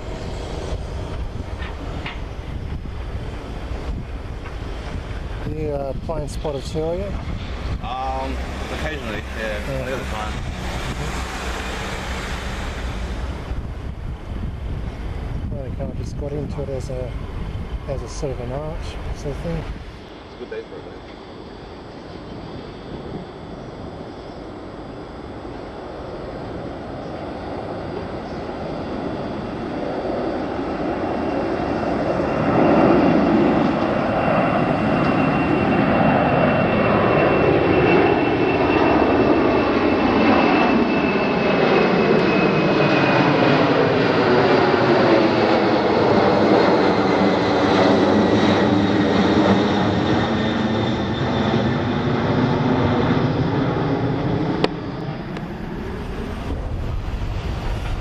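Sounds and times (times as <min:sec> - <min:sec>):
jet airliner engines roaring: 0:00.0 - 0:58.0
jet engine whistling whine: 0:00.0 - 0:58.0.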